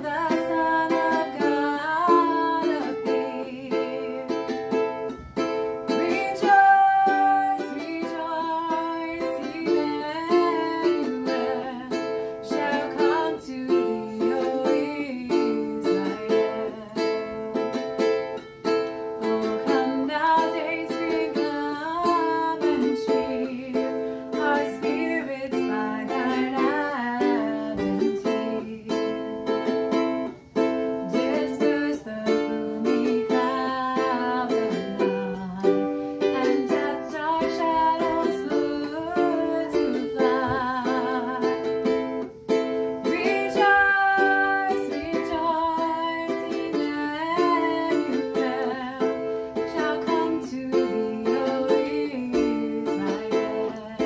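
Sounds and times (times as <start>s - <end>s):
strummed ukulele: 0.0s - 54.0s
woman singing: 0.0s - 54.0s.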